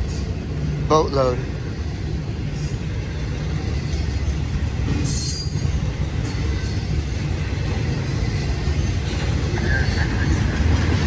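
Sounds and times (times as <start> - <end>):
freight train rumbling past: 0.0 - 11.0
train wheel squeal: 1.6 - 11.0.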